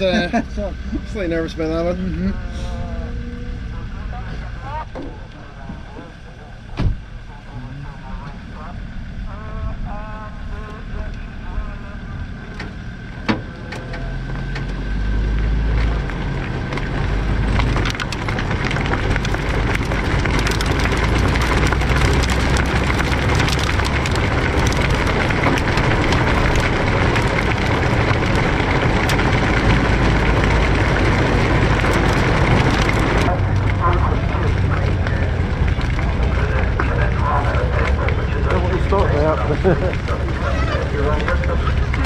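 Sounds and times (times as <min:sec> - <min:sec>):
tyre and road noise: 0:00.0 - 0:42.0.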